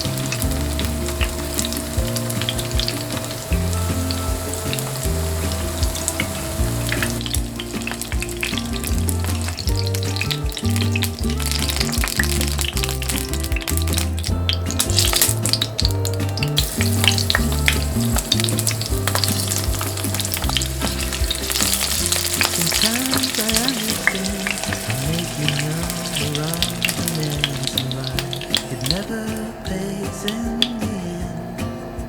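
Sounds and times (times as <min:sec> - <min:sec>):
vegetables sizzling in oil: 0:00.0 - 0:29.6.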